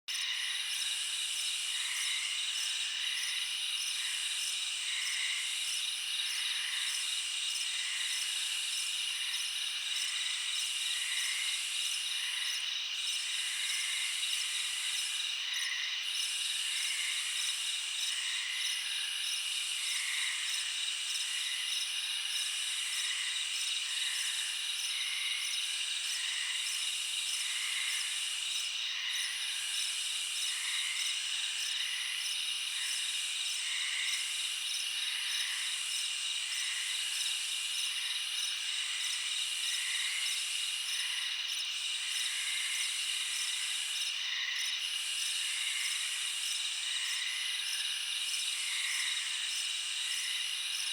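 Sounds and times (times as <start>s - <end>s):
crickets trilling: 0.1s - 50.9s.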